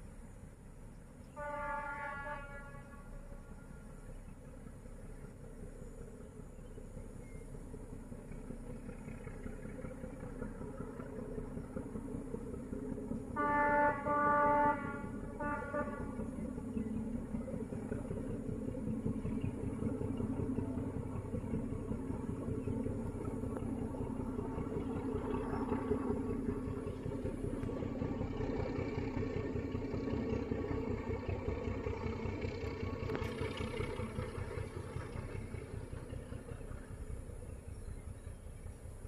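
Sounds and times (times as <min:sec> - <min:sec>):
diesel locomotive engine rumble: 0:00.0 - 0:39.0.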